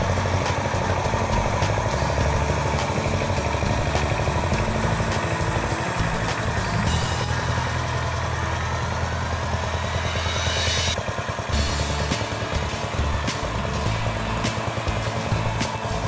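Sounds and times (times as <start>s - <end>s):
tiller diesel engine running: 0.0s - 16.0s.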